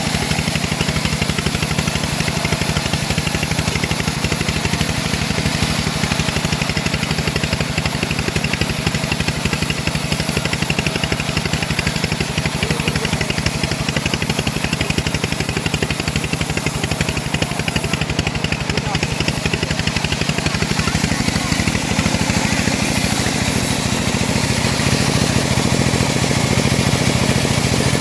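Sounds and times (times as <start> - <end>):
bandsaw mill engine chugging: 0.0 - 28.0.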